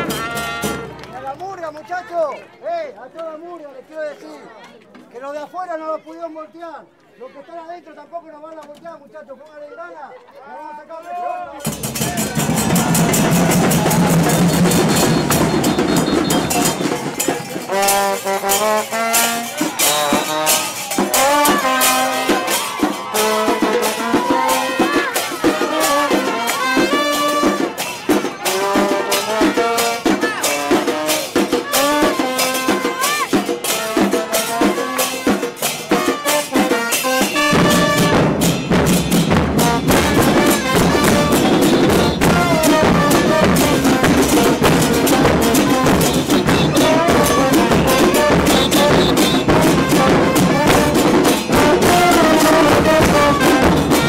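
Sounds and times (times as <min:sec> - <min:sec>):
bass drums and cymbals beat: 0:00.0 - 0:01.0, 0:11.6 - 0:54.0
carnival music melody: 0:00.0 - 0:01.3, 0:11.6 - 0:54.0.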